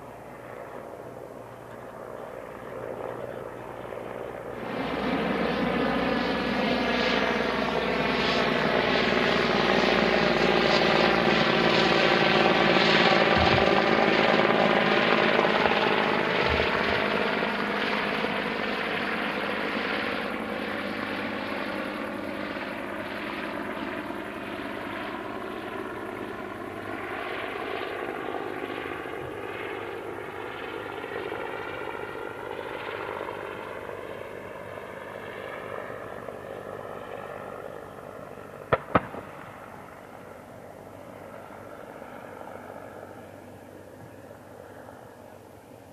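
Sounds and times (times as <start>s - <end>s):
helicopter flying past: 0.0s - 45.9s.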